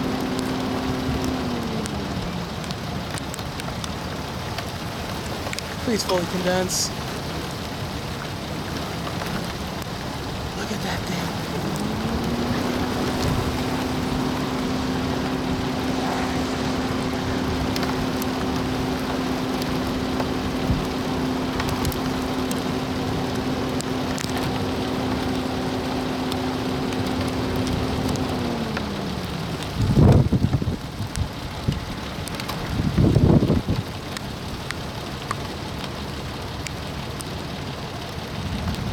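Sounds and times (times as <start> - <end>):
low rumbling gusts: 0.0 - 34.0
rain: 0.0 - 38.9
road noise: 0.0 - 38.9
vehicle engine hum: 0.0 - 38.9.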